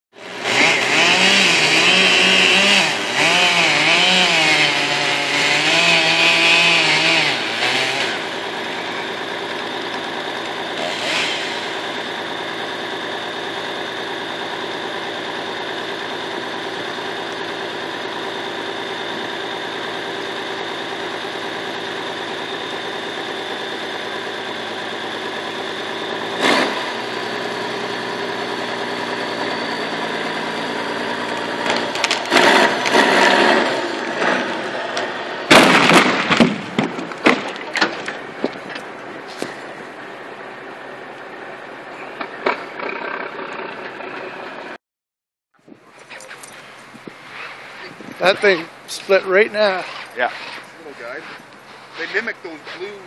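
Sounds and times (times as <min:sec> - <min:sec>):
chainsaw running at high revs: 0:00.2 - 0:35.5, 0:42.5 - 0:44.8, 0:47.1 - 0:53.0
engine idling: 0:07.0 - 0:36.3, 0:37.5 - 0:44.8, 0:45.9 - 0:53.0.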